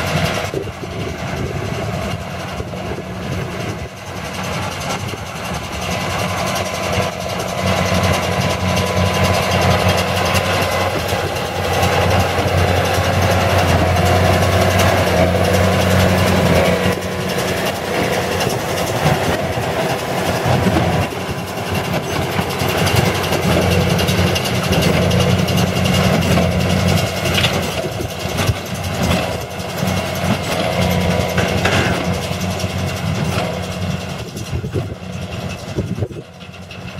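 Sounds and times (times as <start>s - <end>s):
farm machinery engine running: 0.0s - 36.9s.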